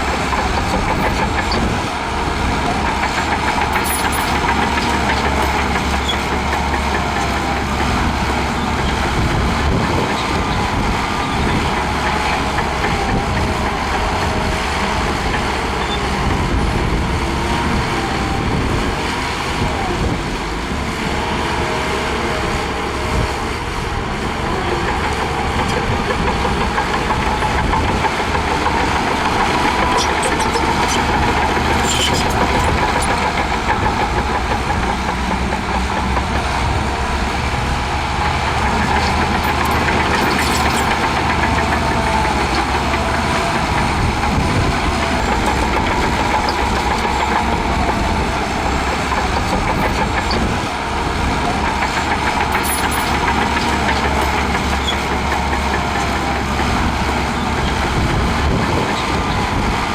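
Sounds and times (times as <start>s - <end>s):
diesel bulldozer engine running: 0.0s - 59.9s.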